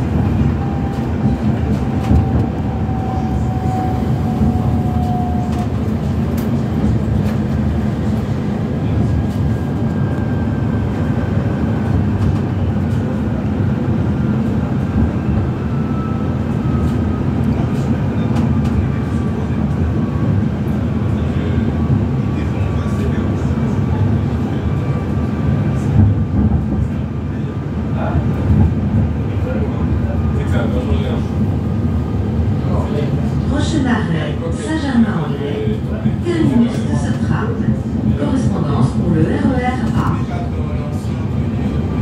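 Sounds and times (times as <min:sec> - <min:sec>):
tram wheels rumbling on rail: 0:00.0 - 0:42.0.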